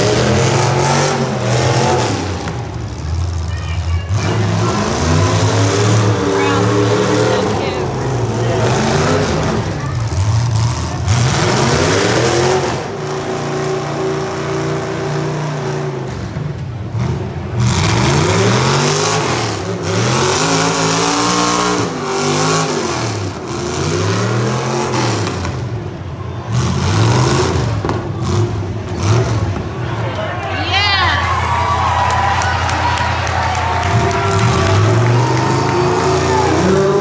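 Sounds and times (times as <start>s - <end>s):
car engines revving hard: 0.0s - 30.2s, 31.4s - 37.0s.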